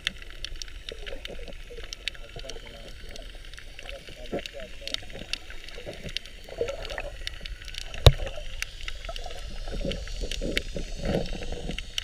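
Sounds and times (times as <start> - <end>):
low rumble of water: 0.0 - 12.0
underwater clicks and crackle: 0.0 - 12.0.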